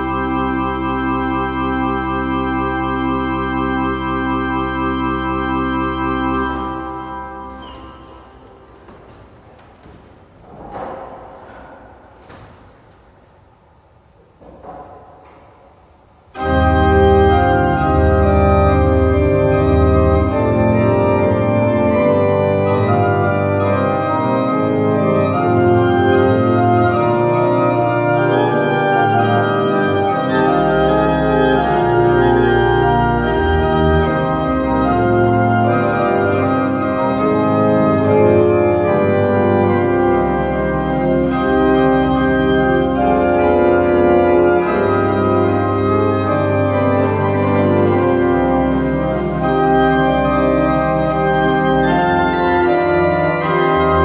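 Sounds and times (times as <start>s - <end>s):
pipe organ playing chords: 0.0s - 11.6s, 16.2s - 54.0s.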